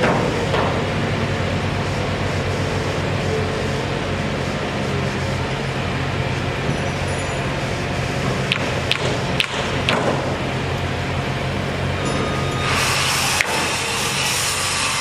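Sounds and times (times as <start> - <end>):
low machine drone: 0.0 - 15.0.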